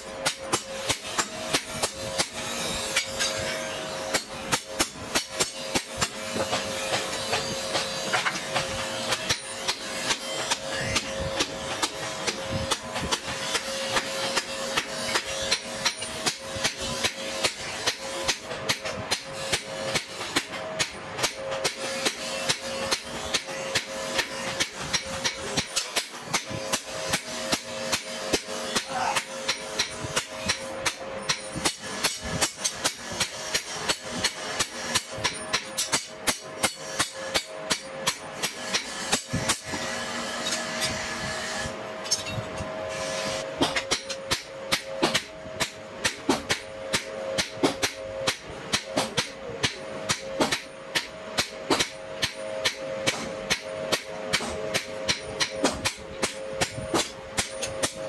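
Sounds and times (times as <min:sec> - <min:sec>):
hammer striking on anvil: 0:00.0 - 0:41.0, 0:43.6 - 0:58.0.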